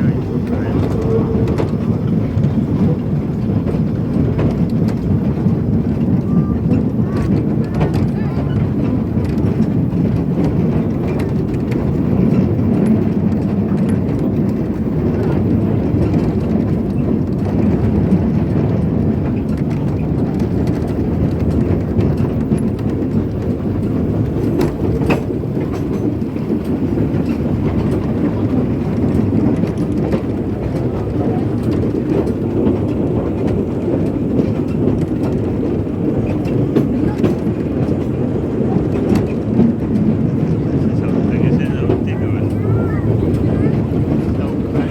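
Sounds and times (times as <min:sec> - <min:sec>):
train carriage rumbling: 0:00.0 - 0:44.9
wheels clicking on rails: 0:00.0 - 0:44.9.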